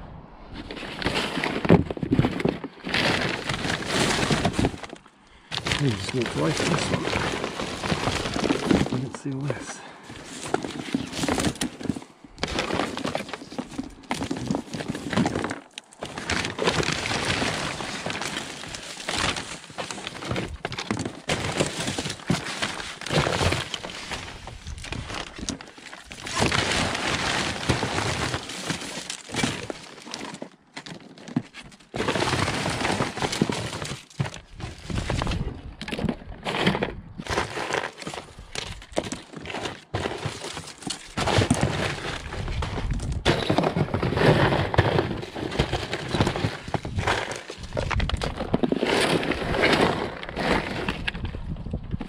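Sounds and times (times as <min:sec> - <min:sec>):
scrap clattering and scraping: 0:00.6 - 0:51.4.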